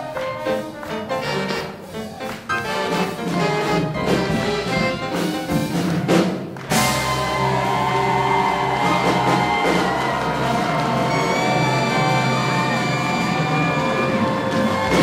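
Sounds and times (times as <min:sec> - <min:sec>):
big band playing swing jazz: 0:00.0 - 0:15.0.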